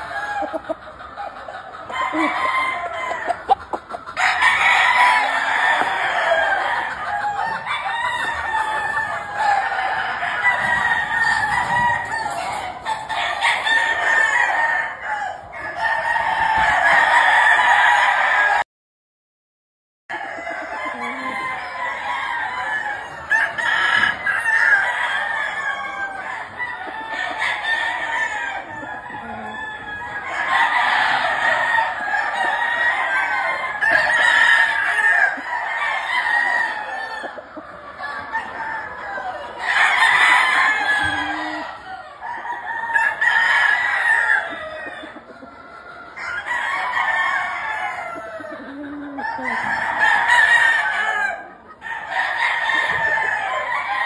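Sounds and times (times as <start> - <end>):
roosters crowing: 0.0 - 18.6, 20.1 - 54.0.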